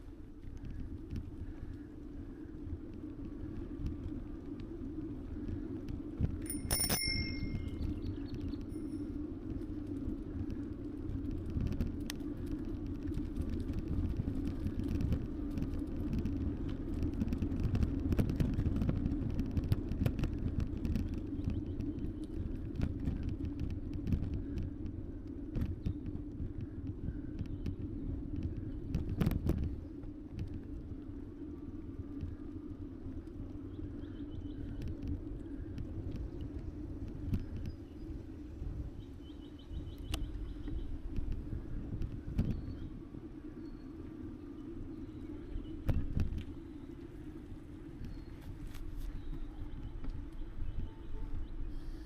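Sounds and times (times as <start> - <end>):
wind rumbling on microphone: 0.0 - 52.0.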